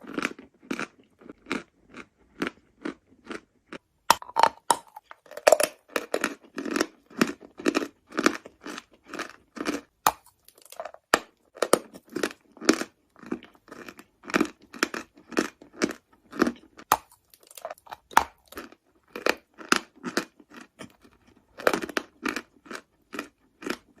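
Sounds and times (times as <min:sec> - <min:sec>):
crunchy chewing of chalk: 0:00.0 - 0:24.0.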